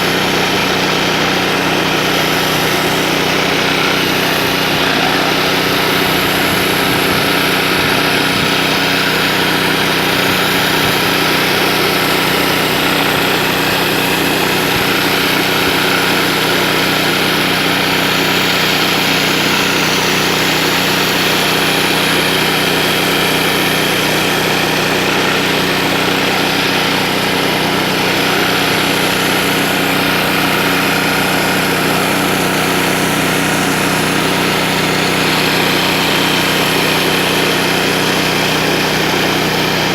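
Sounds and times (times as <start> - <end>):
pressure washer engine running: 0.0 - 39.9
water spraying on concrete: 0.0 - 39.9.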